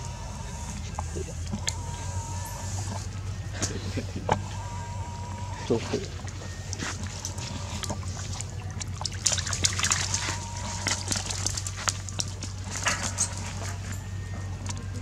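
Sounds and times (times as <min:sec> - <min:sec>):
low hum: 0:00.0 - 0:15.0
monkeys splashing in puddle: 0:00.0 - 0:15.0.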